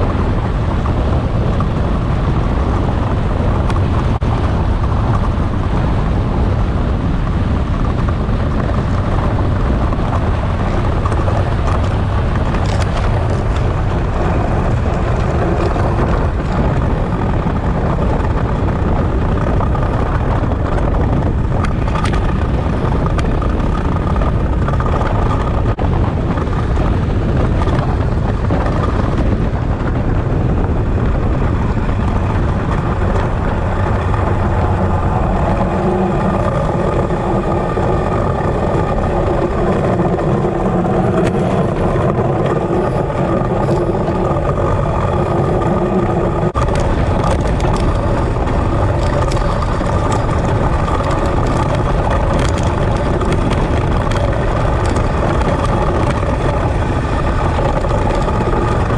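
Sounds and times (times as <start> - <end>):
runners rumbling over ice: 0.0 - 58.9
wind buffeting: 0.0 - 58.9.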